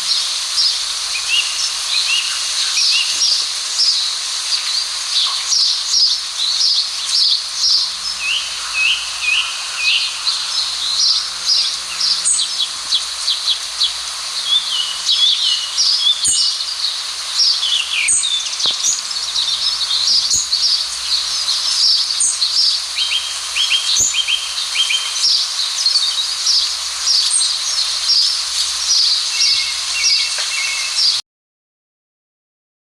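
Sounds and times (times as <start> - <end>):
small birds chirping and twittering: 0.0 - 31.2.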